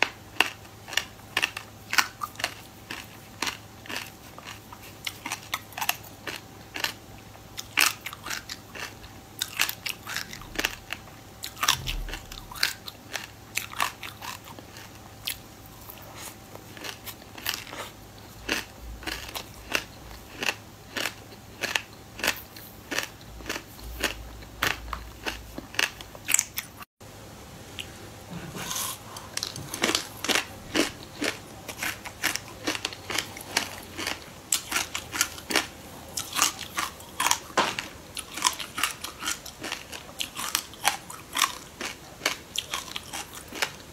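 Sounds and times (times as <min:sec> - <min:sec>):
crunching and chewing grains: 0:00.0 - 0:26.9, 0:27.7 - 0:43.9.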